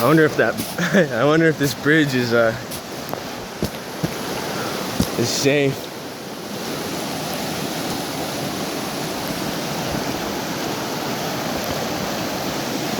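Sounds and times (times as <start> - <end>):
creek water rushing: 0.0 - 12.9.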